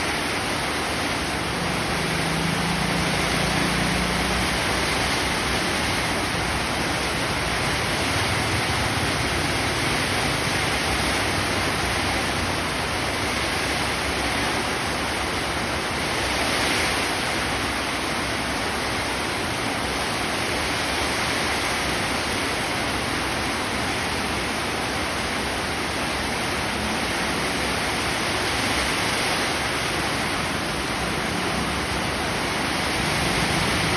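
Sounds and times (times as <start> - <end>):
heavy rain pouring: 0.0 - 33.9
wind: 0.0 - 33.9.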